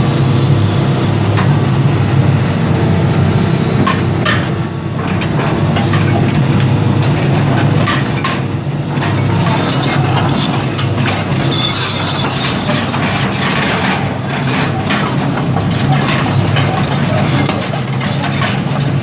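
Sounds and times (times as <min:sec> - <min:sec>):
diesel engine running: 0:00.0 - 0:19.0
track links clanking and squeaking: 0:03.4 - 0:19.0.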